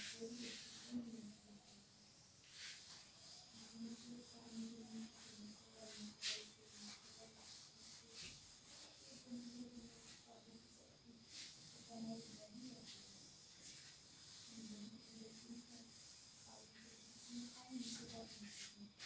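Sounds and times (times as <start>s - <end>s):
cloth rubbing a whiteboard: 0.0s - 19.0s.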